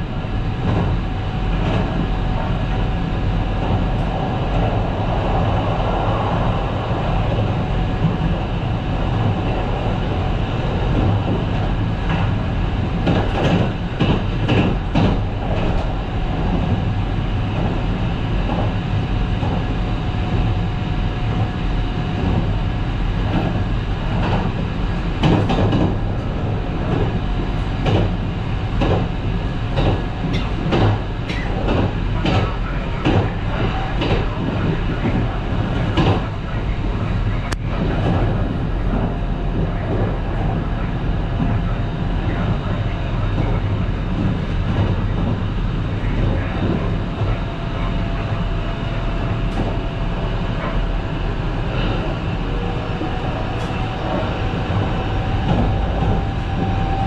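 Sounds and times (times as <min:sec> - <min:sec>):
train running gear rumble: 0:00.0 - 0:57.0.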